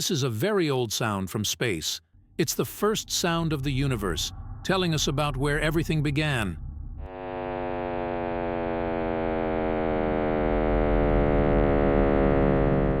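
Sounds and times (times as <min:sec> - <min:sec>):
deep rumble: 0:02.0 - 0:13.0
synthesized buzzing drone: 0:02.2 - 0:13.0.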